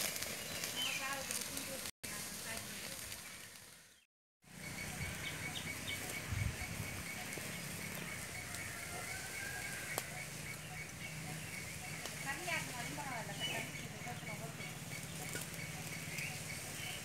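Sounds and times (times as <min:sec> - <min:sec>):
birds chirping: 0:00.0 - 0:17.0
fire crackle: 0:00.0 - 0:17.0
fire hissing: 0:00.0 - 0:17.0.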